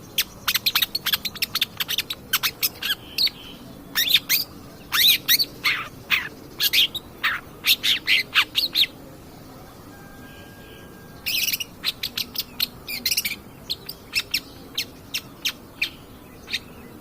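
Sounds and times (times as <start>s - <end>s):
shrike singing chirps and whistles: 0.0s - 17.0s.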